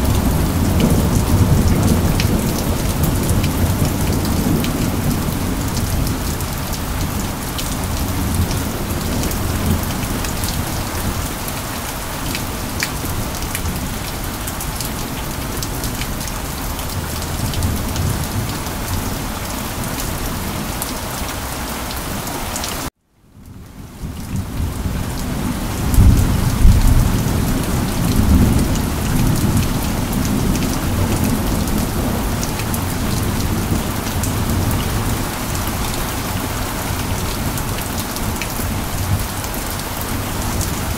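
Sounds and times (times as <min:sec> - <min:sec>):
low rumble of thunder: 0:00.0 - 0:21.0, 0:23.4 - 0:40.9
steady rain falling: 0:00.0 - 0:40.9.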